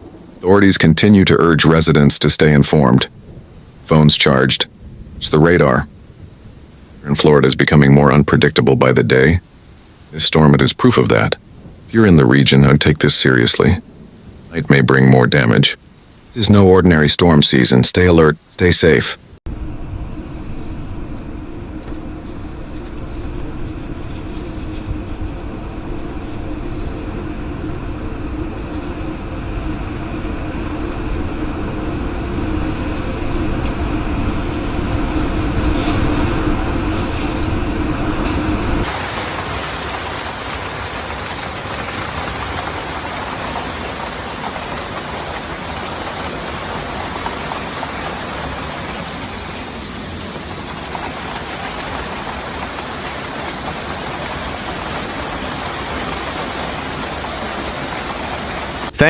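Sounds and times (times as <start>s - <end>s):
heavy rain hiss: 0.0s - 19.4s, 22.0s - 59.0s
low storm rumble: 0.0s - 59.0s.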